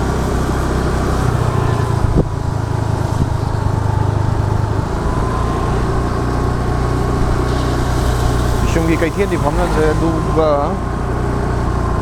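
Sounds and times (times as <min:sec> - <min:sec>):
motor scooter engine rumble: 0:00.0 - 0:12.0.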